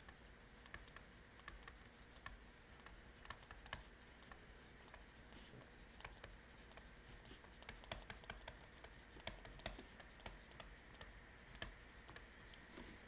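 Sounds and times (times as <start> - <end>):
stylus tapping on tablet screen: 0.7 - 5.1, 6.0 - 12.3.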